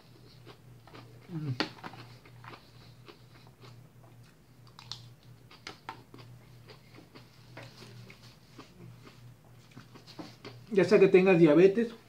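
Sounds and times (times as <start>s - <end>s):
low steady hum: 0.0s - 12.0s
chewing: 0.1s - 10.7s.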